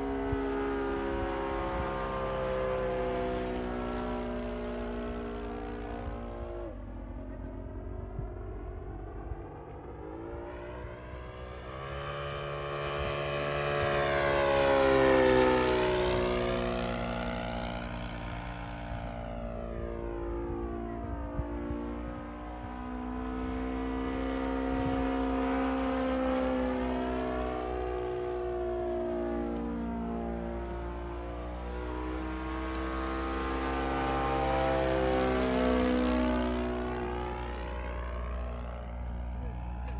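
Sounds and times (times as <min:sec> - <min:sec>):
model airplane engine passing: 0:00.0 - 0:39.9.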